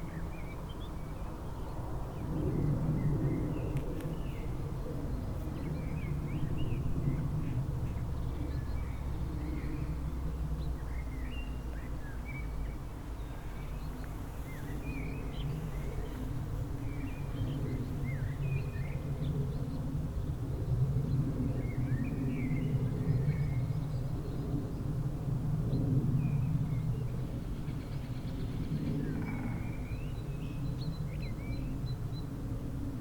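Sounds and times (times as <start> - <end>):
small songbirds chirping: 0.0 - 20.2, 25.7 - 32.4.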